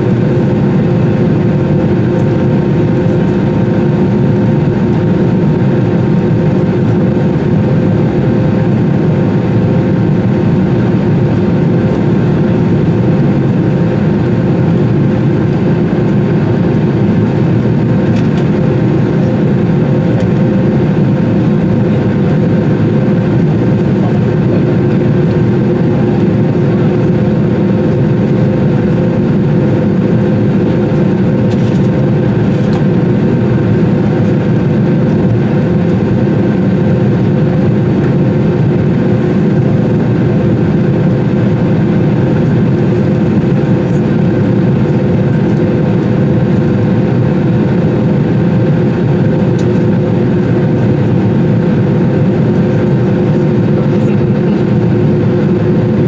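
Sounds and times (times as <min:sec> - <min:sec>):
jet engines humming in cabin: 0:00.0 - 0:56.0.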